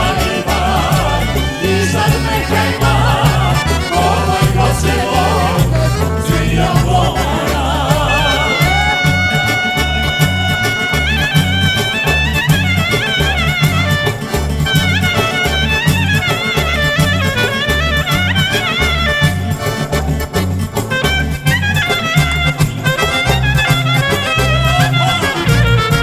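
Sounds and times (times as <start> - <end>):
folk dance music: 0.0 - 26.0.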